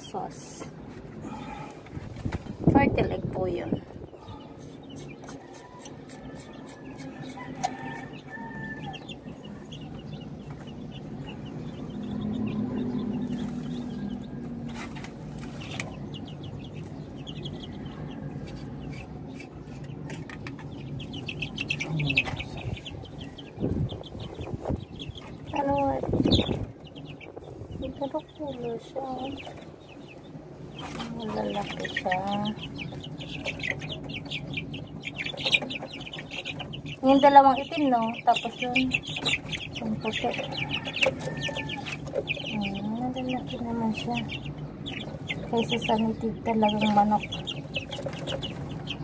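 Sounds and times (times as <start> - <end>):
chickens clucking: 0.0 - 49.0
chicks peeping: 0.0 - 49.0.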